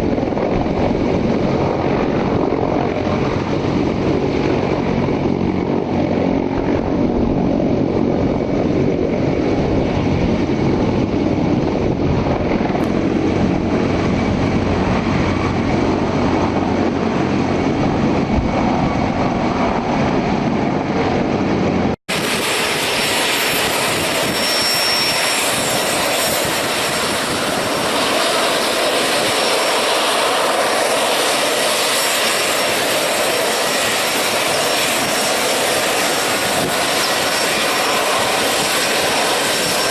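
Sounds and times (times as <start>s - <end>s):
helicopter turbines and rotor: 0.0s - 39.9s.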